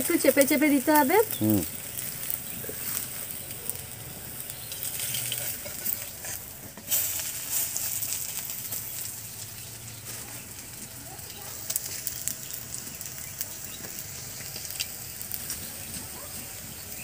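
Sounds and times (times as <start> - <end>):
fritters sizzling in oil: 0.0 - 17.0.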